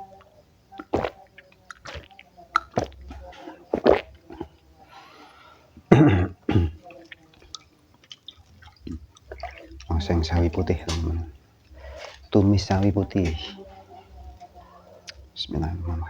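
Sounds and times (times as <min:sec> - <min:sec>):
breathy mouth and throat noises: 0:00.2 - 0:15.4
man eating noisily: 0:00.8 - 0:15.4.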